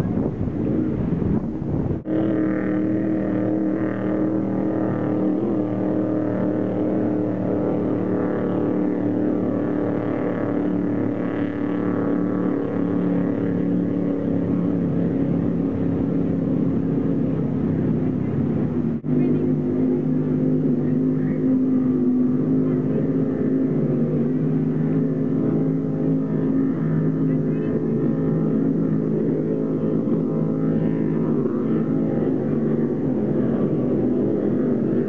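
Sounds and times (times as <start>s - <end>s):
powerboat engines droning: 0.0s - 35.0s.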